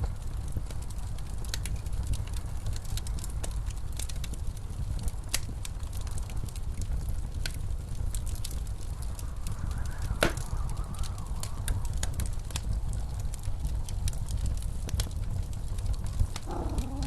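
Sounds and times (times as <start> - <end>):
low rumble of wind: 0.0 - 17.0
wood fire crackling: 0.0 - 17.0.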